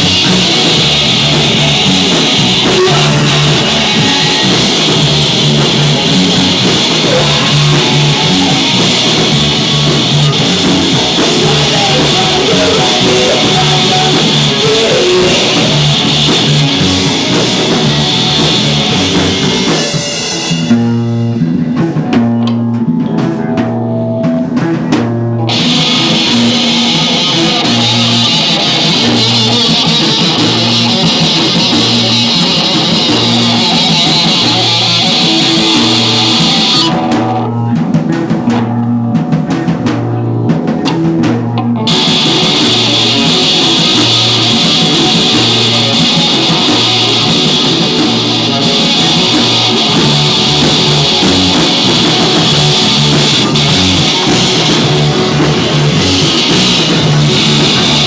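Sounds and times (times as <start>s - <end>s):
bass line: 0.0s - 58.0s
drum kit: 0.0s - 58.0s
electric guitar: 0.0s - 58.0s.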